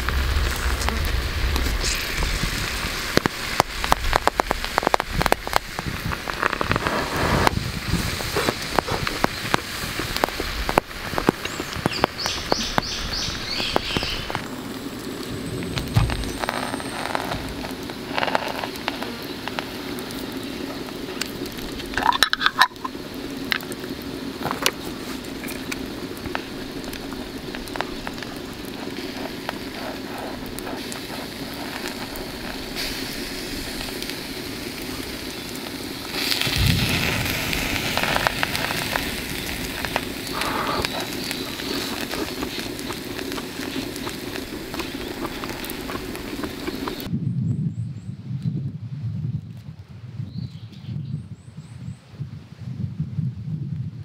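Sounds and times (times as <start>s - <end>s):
crackling clicks: 0.0s - 47.1s
food sizzling in a frying pan: 0.0s - 47.1s.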